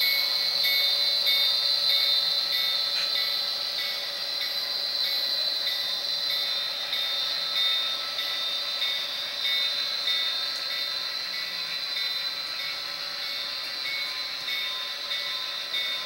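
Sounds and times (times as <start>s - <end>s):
model train wheels whirring: 0.0s - 16.0s.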